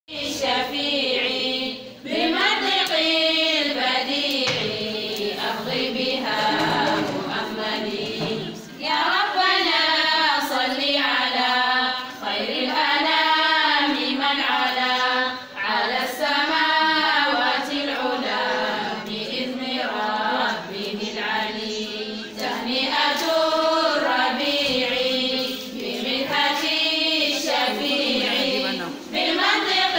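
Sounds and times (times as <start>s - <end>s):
women and girls chanting: 0.1s - 29.9s.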